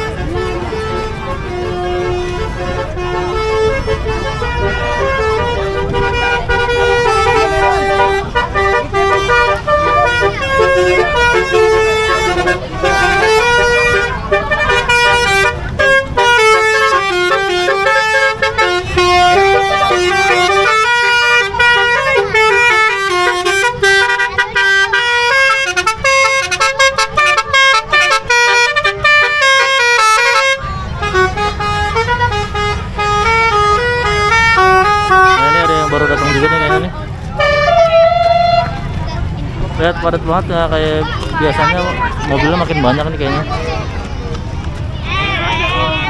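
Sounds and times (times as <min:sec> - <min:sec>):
multi-tone vehicle horn melody: 0:00.0 - 0:43.9.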